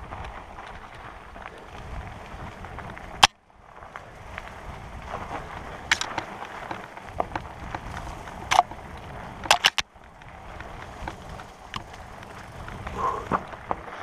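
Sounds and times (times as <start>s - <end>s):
bike knocking and rattling: 0.0s - 14.0s
bike tyres rumbling on dirt: 0.0s - 14.0s.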